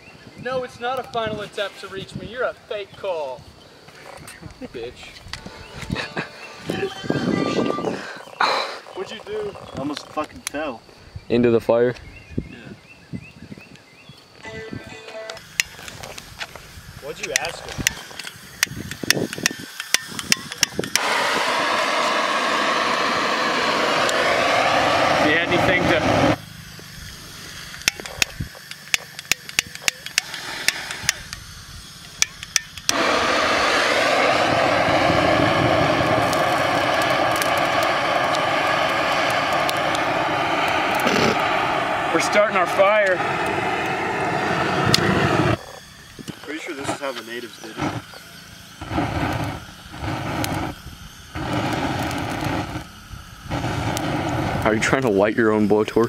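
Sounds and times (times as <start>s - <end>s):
blowtorch flame hissing: 0.5s - 11.2s, 15.4s - 56.0s.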